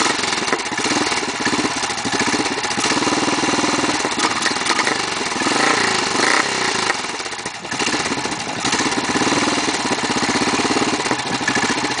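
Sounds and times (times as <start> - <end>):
motorcycle engine fast idle: 0.0 - 12.0.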